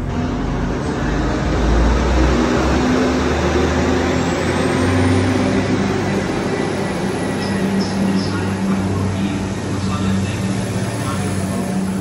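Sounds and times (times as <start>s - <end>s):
diesel train engine drone: 0.0s - 12.0s
train wheels on rails: 0.0s - 12.0s.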